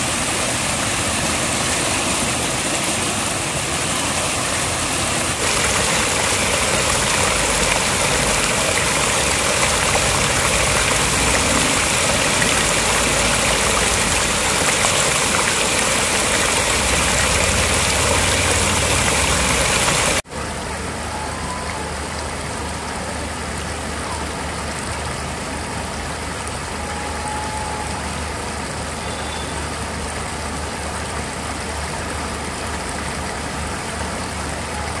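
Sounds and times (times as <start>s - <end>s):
water rushing over weir: 0.0s - 35.0s.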